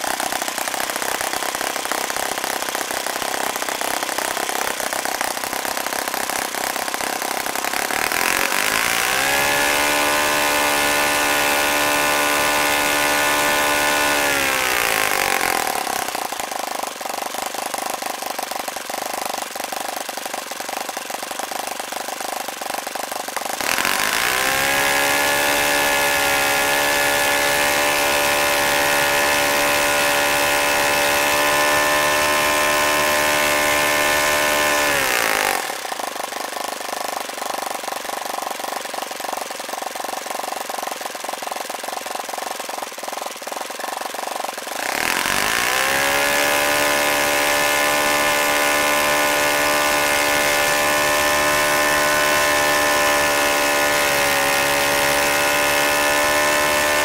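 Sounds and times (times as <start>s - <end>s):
model glow engine running: 0.0s - 57.0s.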